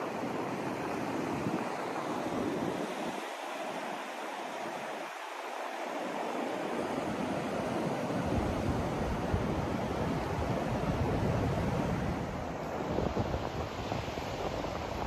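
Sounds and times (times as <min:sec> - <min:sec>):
continuous rushing noise: 0:00.0 - 0:15.0.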